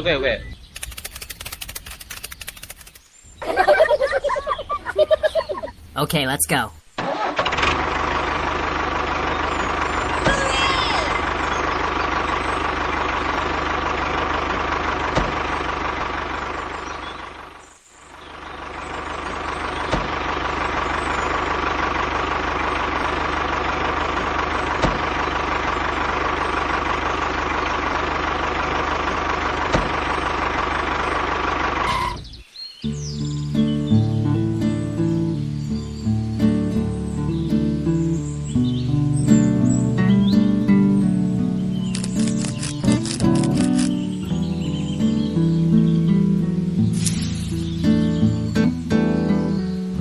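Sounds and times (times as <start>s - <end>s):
tractor engine running: 0.6s - 3.6s, 5.9s - 32.4s, 33.0s - 50.0s.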